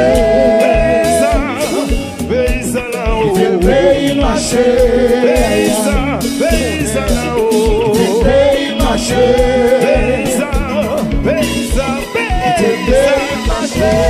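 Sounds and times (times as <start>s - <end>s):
drum kit beat: 0.0s - 14.0s
electric guitar: 0.0s - 14.0s
konpa band playing: 0.0s - 14.0s
man singing: 0.0s - 14.0s.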